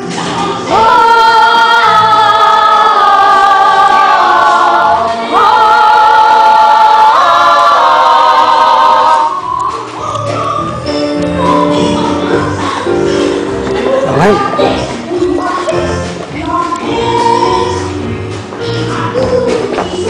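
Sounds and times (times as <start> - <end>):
group of voices singing in harmony: 0.0 - 20.0.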